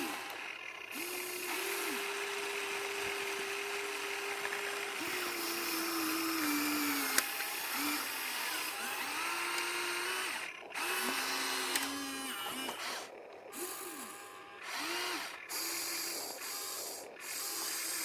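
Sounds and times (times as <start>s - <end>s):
small electric motors whirring: 0.0s - 18.0s.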